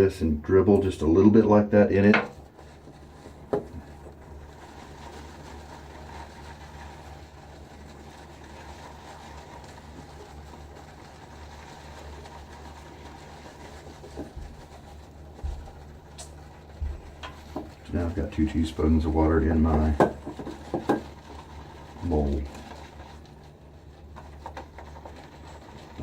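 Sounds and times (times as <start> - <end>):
steady low hum: 0.0 - 26.0
shaving brush swishing lather: 2.0 - 26.0.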